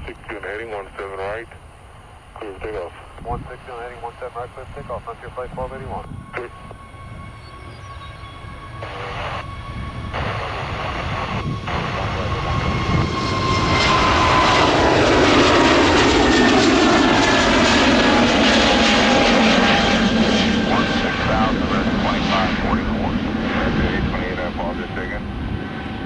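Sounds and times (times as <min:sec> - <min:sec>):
jet engines at takeoff power: 0:00.0 - 0:26.0.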